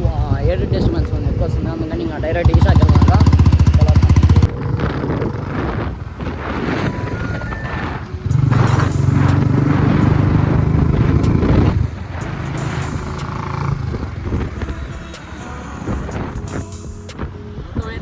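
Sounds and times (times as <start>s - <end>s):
motorcycle engine running: 0.0s - 18.0s
wind noise: 0.0s - 18.0s.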